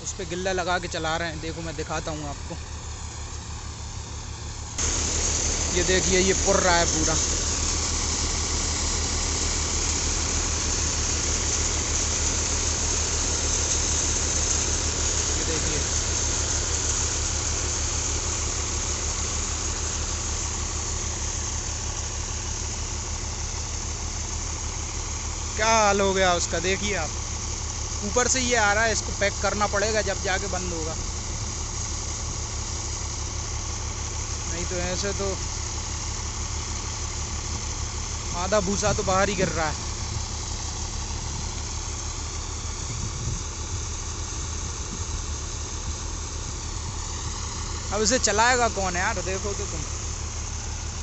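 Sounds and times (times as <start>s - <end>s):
diesel tractor engine running: 0.0s - 51.0s
threshing machine hiss: 0.0s - 51.0s.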